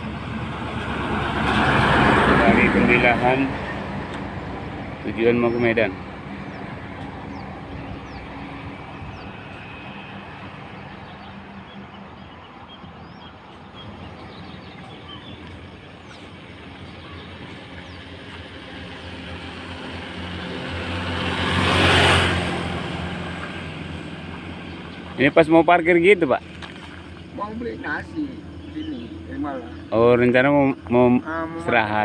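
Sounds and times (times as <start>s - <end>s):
highway traffic hum: 0.0s - 32.0s
vehicle engine passing close: 0.0s - 32.0s.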